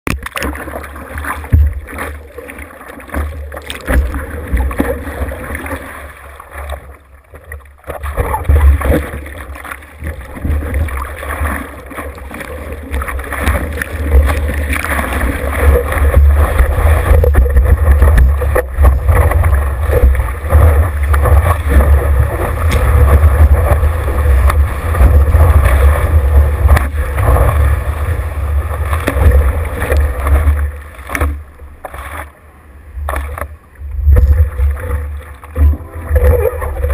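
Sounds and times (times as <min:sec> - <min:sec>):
water splashing over surfboard: 0:00.0 - 0:36.9.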